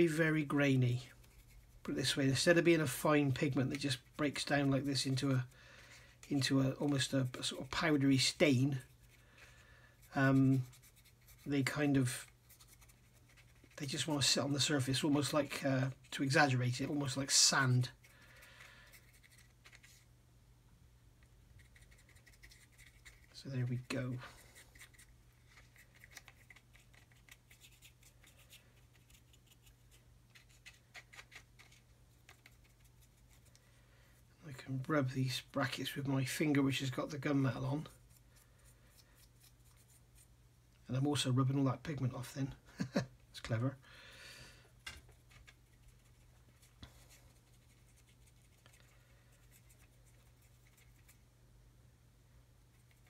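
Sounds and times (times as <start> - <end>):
paintbrush bristles scratching: 0.0 - 20.1, 21.5 - 33.6, 34.5 - 40.4, 45.1 - 51.3.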